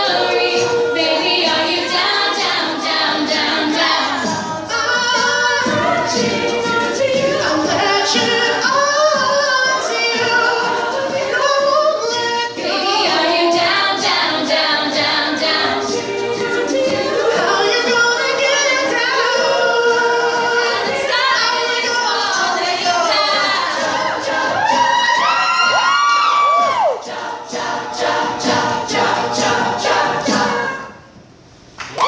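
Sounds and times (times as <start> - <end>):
a cappella group singing: 0.0 - 31.2.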